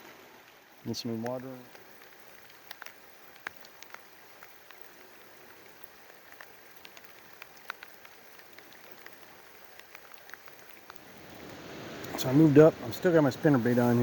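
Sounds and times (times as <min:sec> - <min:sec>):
faint steady hiss: 0:00.0 - 0:14.0
raindrops ticking: 0:00.4 - 0:14.0.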